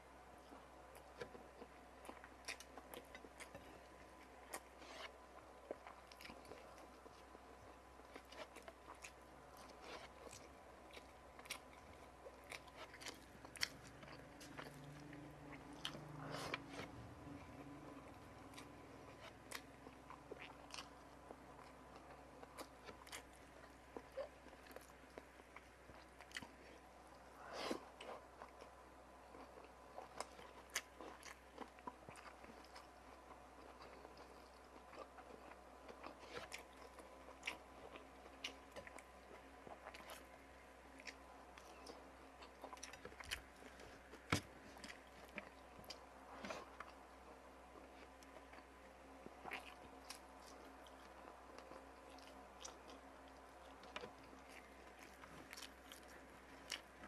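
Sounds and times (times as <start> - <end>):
person chewing: 0.4 - 57.0.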